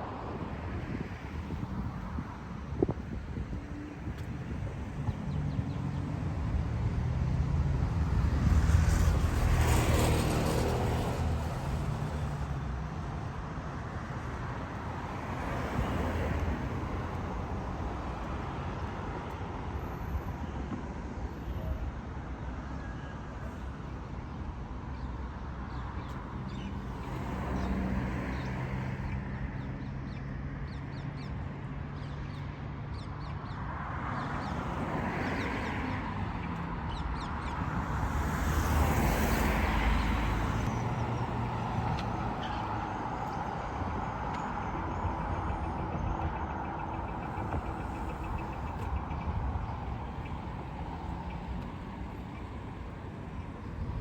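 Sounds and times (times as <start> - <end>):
vehicles passing: 0.0 - 22.6, 23.2 - 54.0
road traffic rumble: 0.0 - 54.0.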